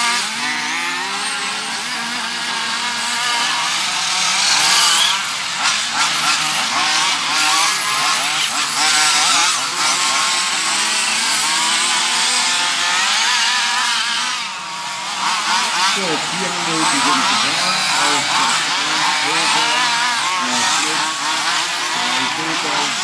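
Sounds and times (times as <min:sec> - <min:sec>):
rc car engines revving: 0:00.0 - 0:23.0.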